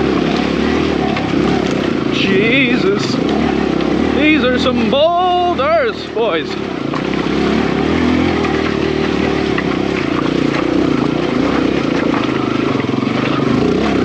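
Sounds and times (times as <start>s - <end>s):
dirt bike engine chugging: 0.0s - 14.0s.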